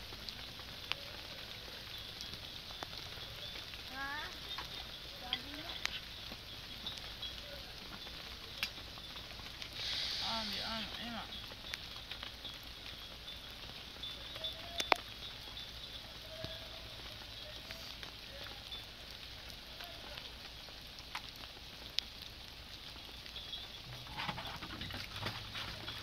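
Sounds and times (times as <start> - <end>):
fire crackles and pops: 0.0 - 26.0
fire hissing: 0.0 - 26.0.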